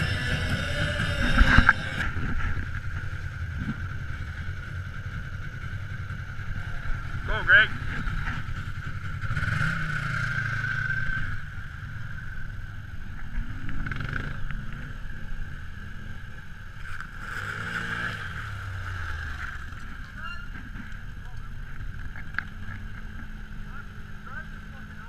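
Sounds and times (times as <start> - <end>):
low engine hum and whine: 0.0 - 25.0
quad engines riding past: 0.0 - 25.0.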